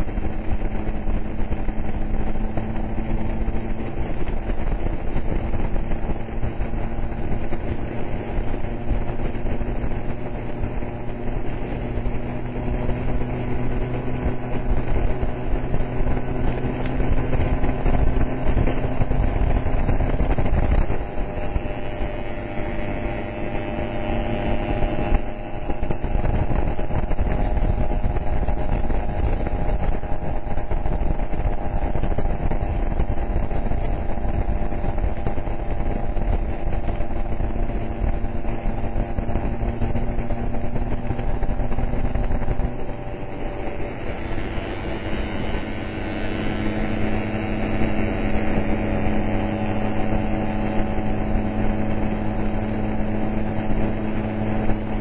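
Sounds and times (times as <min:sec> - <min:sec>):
motor scooter engine running: 0:00.0 - 0:55.0
road noise: 0:00.0 - 0:55.0
wind noise: 0:00.0 - 0:55.0.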